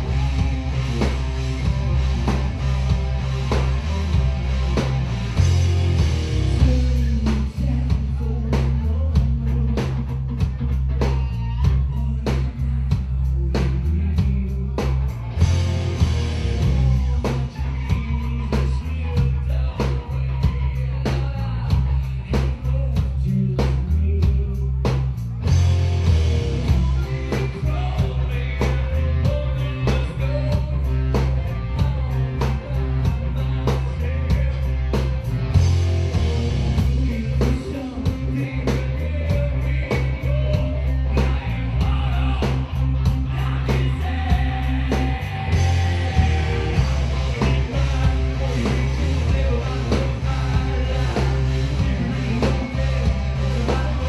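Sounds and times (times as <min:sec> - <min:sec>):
drum kit beat: 0:00.0 - 0:54.0
electric guitars: 0:00.0 - 0:54.0
heavy bass guitar line: 0:00.0 - 0:54.0.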